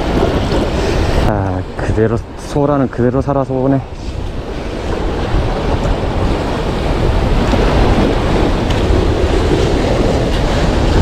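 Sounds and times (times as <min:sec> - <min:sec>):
sea waves surging: 0:00.0 - 0:11.0
wind buffeting microphone: 0:00.0 - 0:11.0.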